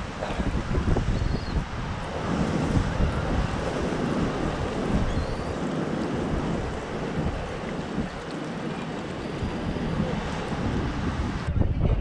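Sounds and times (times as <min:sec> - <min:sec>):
sea water washing: 0:00.0 - 0:11.5
wind buffeting microphone: 0:00.0 - 0:12.0.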